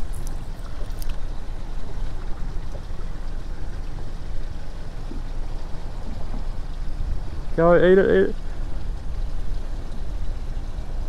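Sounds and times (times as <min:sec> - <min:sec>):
water moving around boat: 0:00.0 - 0:11.0.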